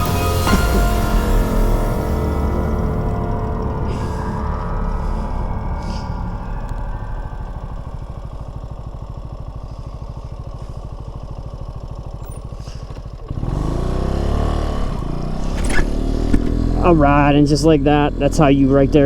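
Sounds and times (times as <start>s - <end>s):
mini motorcycle engine: 0.0s - 19.0s.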